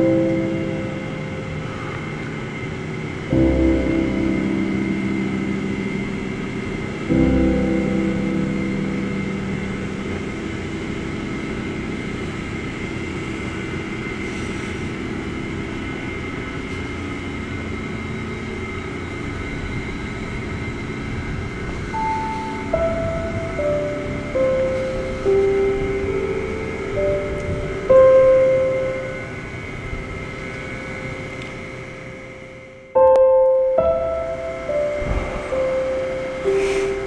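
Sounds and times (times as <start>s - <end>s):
slow sustained music chords: 0.0s - 37.0s.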